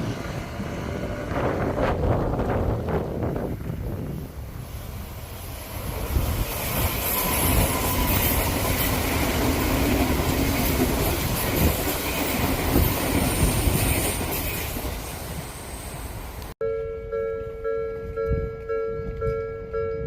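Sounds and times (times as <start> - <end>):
electric train passing: 0.0 - 16.5.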